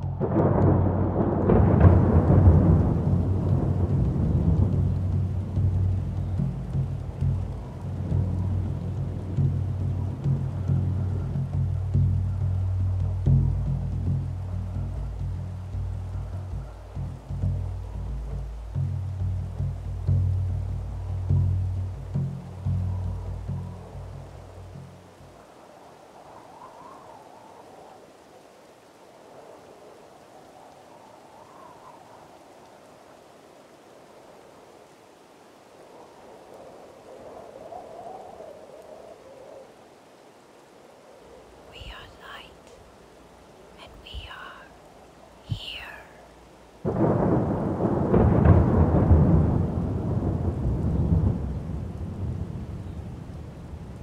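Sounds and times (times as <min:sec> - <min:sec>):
thunder rumble: 0:00.0 - 0:25.6, 0:35.6 - 0:54.0
soft water-like rushing: 0:00.0 - 0:54.0.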